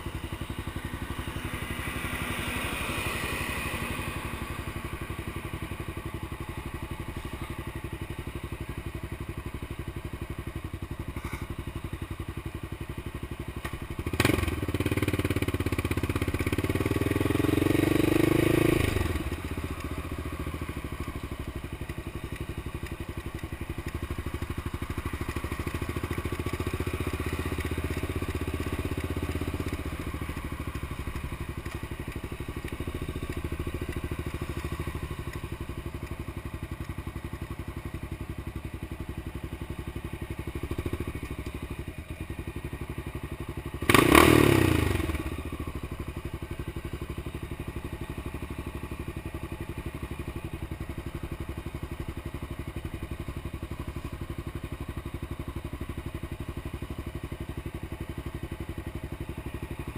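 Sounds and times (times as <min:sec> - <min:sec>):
single-cylinder engine running: 0:00.0 - 0:59.9.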